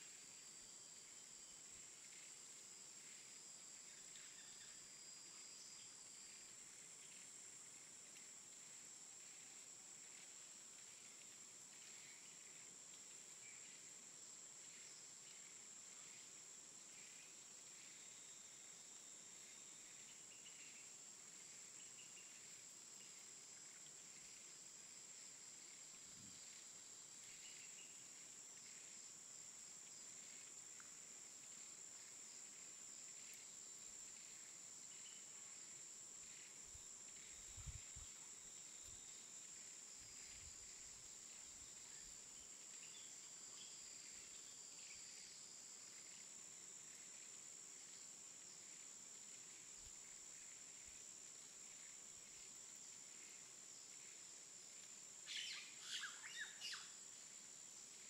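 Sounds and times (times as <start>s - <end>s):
faint high-pitched hiss: 0.0s - 58.0s.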